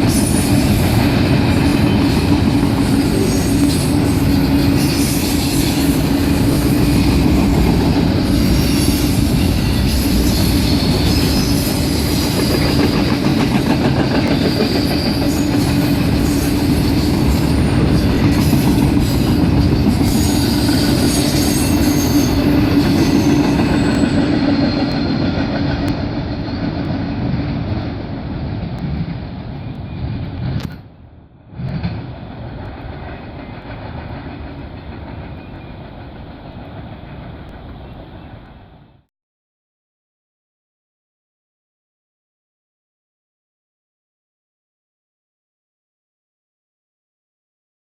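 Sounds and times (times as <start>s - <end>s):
train rolling past on rails: 0.0s - 39.1s.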